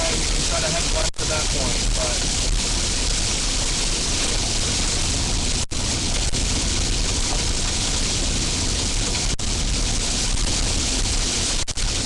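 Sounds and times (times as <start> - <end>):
rain on a car: 0.0 - 12.0.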